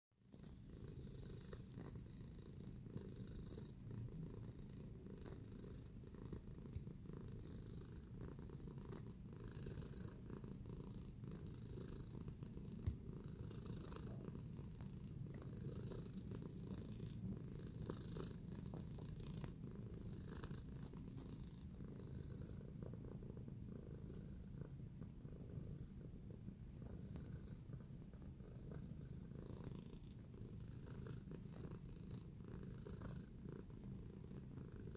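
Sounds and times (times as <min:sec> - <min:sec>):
cat purring: 0:00.2 - 0:34.9.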